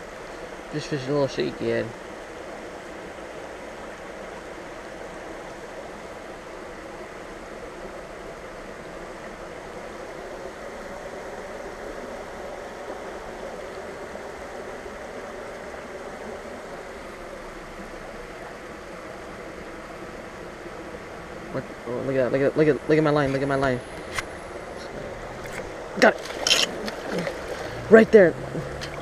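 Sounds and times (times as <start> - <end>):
stream water running: 0.0 - 29.0.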